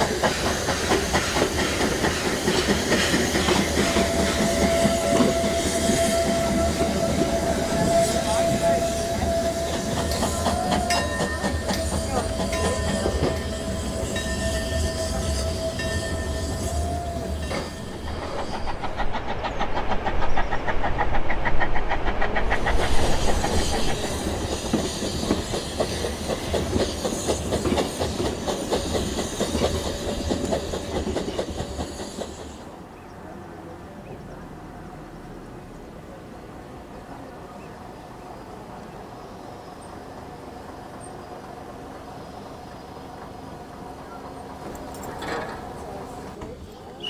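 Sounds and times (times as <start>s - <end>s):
train carriages rumbling: 0.0s - 35.2s, 36.1s - 47.0s.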